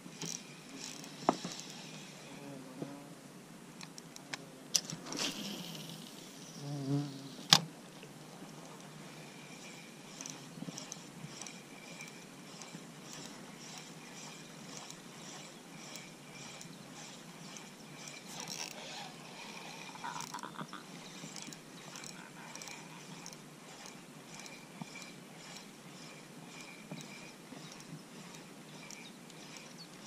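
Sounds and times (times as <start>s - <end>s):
fishing reel ticking: 0.0s - 2.4s, 4.7s - 7.6s, 8.5s - 30.0s.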